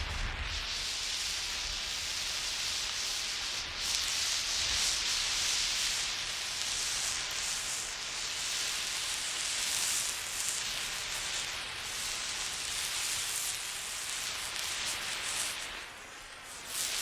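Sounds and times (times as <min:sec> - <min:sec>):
flare burning with harsh hiss: 0:00.0 - 0:17.0.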